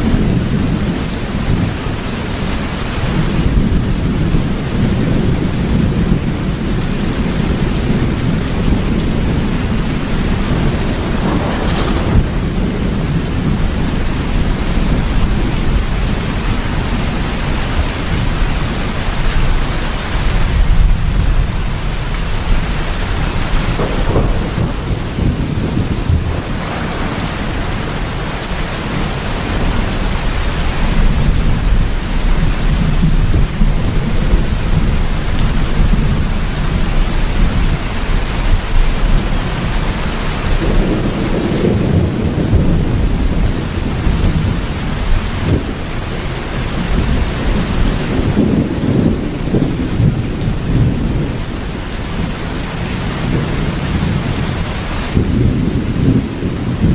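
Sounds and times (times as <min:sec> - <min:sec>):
heavy rain: 0:00.0 - 0:56.9
rolling thunder: 0:00.0 - 0:56.9.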